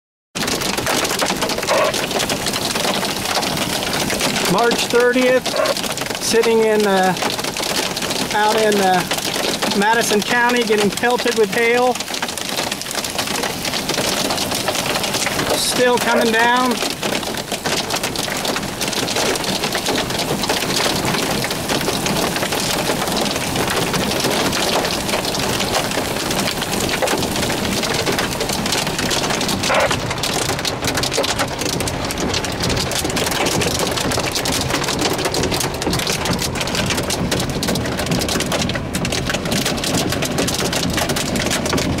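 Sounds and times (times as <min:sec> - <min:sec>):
hailstones tapping vehicle: 0:00.4 - 0:42.0
heavy rain hissing on car: 0:00.4 - 0:42.0.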